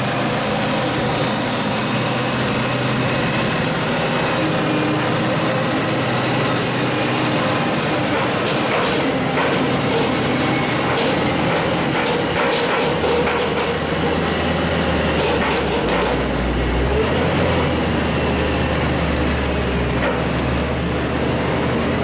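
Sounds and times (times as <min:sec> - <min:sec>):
heavy farm machinery running: 0:00.0 - 0:22.0.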